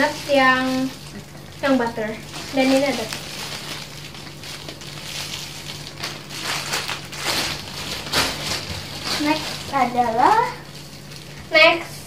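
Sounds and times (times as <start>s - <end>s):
crinkling handling noise: 0.0s - 11.9s.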